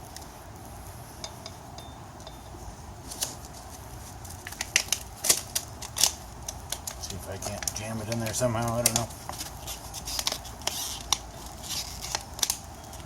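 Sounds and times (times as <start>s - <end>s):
tire iron clicking and scraping: 0.0s - 13.0s.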